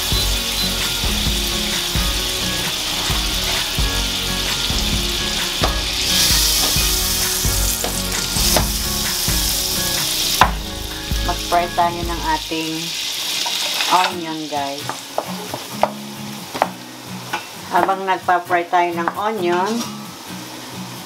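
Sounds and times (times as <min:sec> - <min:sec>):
butter sizzling in frying pan: 0:00.0 - 0:17.5.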